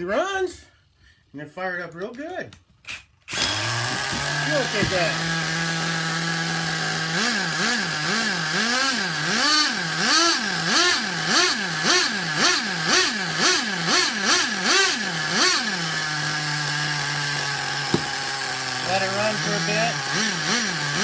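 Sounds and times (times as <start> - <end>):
small nitro engine revving: 3.3 - 21.0.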